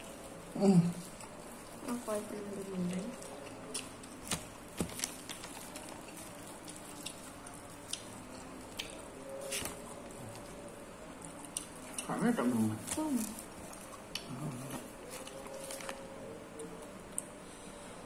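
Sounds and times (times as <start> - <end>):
people chewing and lip smacking: 0.0 - 17.7.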